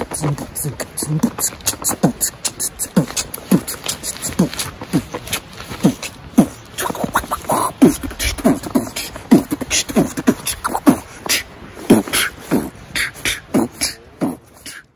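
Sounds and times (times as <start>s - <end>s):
person beatboxing: 0.0s - 14.9s.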